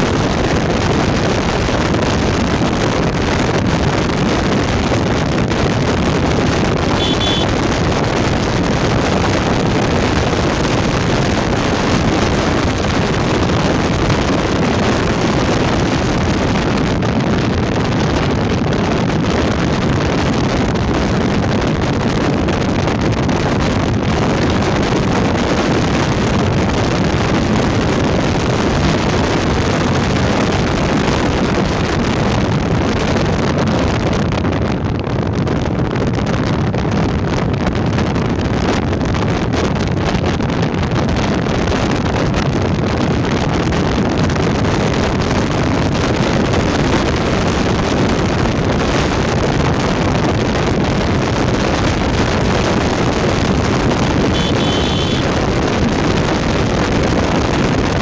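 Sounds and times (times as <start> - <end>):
motorcycle running: 0.0 - 58.0
wind on microphone: 0.0 - 58.0.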